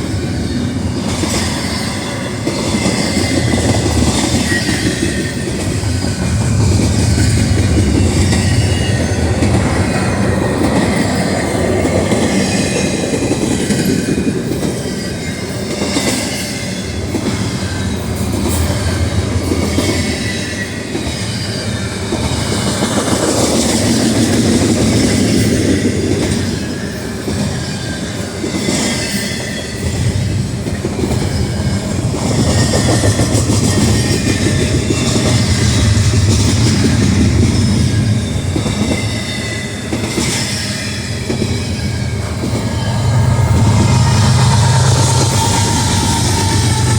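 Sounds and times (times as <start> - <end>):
freight train wheels clattering: 0.0 - 46.9.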